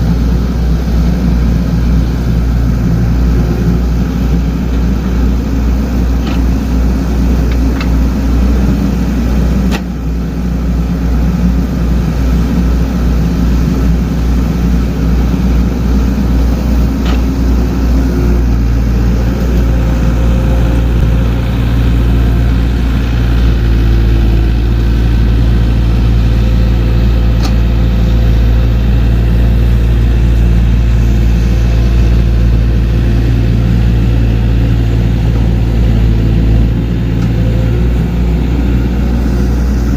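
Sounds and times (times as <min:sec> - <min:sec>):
diesel engine running under work: 0:00.0 - 0:39.9.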